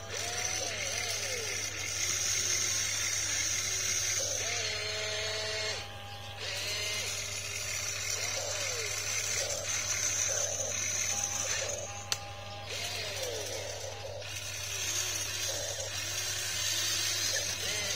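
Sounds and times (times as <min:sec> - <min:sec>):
electric pump and motors whining: 0:00.0 - 0:17.9
steady high whine: 0:00.0 - 0:17.9.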